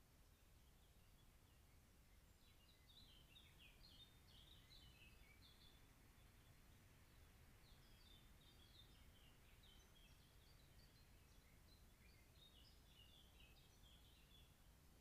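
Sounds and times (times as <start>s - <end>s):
low background hiss: 0.0s - 15.0s
songbird chirping and warbling: 0.2s - 14.7s.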